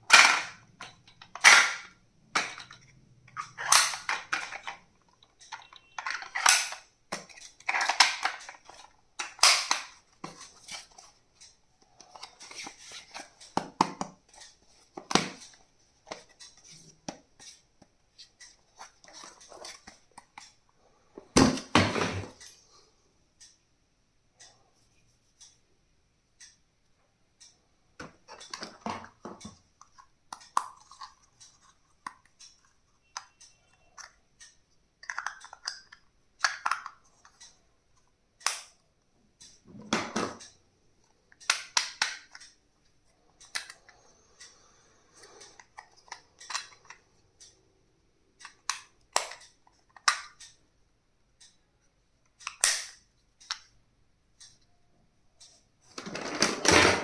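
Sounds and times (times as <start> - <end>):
plastic parts clicking and knocking: 0.0 - 20.6, 21.2 - 22.6, 27.4 - 38.8, 39.4 - 44.5, 45.2 - 47.8, 48.4 - 50.7, 52.2 - 53.8, 55.4 - 57.0.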